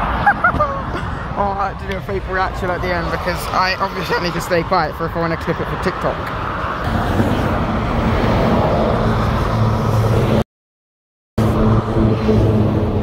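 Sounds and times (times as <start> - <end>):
motorway traffic passing: 0.0 - 10.4, 11.4 - 13.0.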